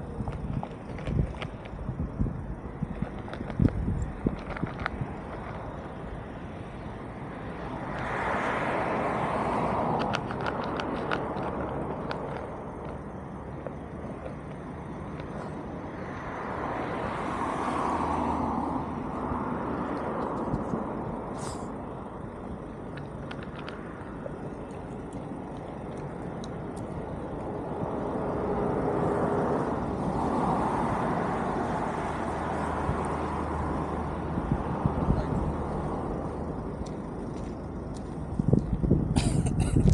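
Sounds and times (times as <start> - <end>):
faint steady whine: 0.0 - 39.9
vehicle rumble: 0.0 - 39.9.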